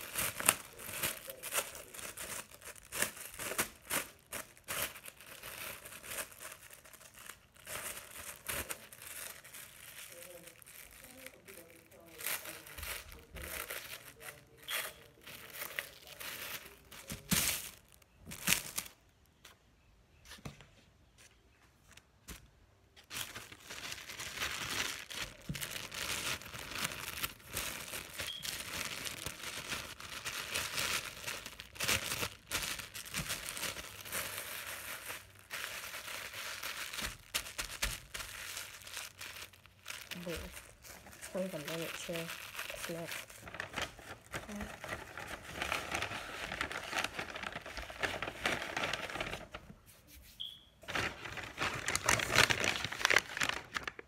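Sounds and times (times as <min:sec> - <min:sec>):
plastic bag crinkling: 0:00.0 - 0:19.4, 0:23.0 - 0:49.7, 0:50.8 - 0:54.0.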